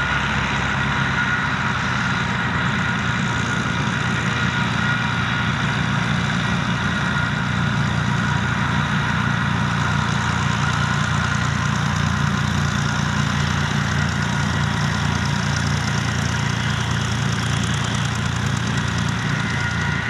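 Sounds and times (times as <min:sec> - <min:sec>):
propeller plane engine taxiing: 0:00.0 - 0:20.0.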